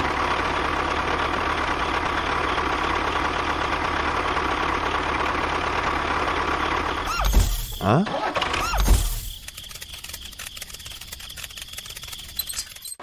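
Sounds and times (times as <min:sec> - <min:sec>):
mini tractor engine running: 0:00.0 - 0:13.0.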